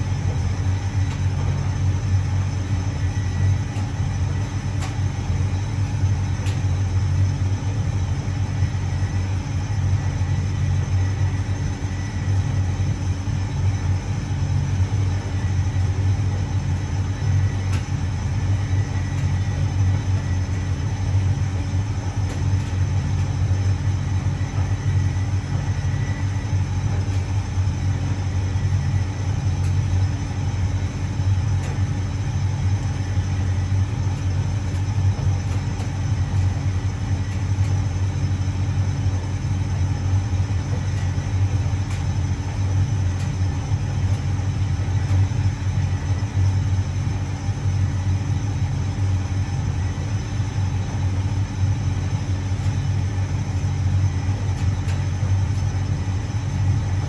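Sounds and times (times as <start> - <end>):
tumble dryer rumbling: 0.0 - 57.0.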